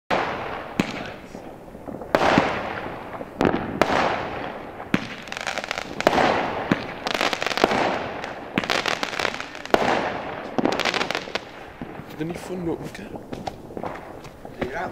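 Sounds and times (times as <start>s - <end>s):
crackling firework pops: 0.1s - 14.9s
firework bangs echoing: 0.1s - 14.9s.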